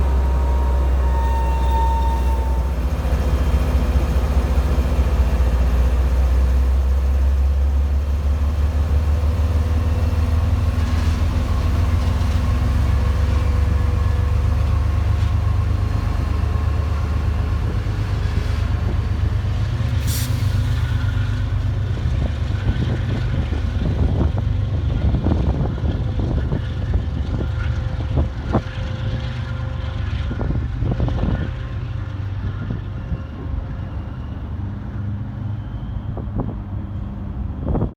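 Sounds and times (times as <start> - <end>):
diesel locomotive rumble: 0.0 - 37.9.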